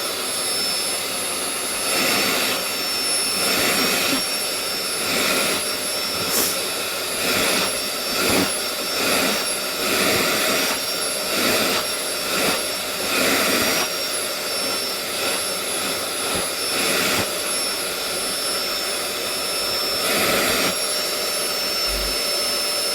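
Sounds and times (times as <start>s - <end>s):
vacuum cleaner whining: 0.0s - 22.9s.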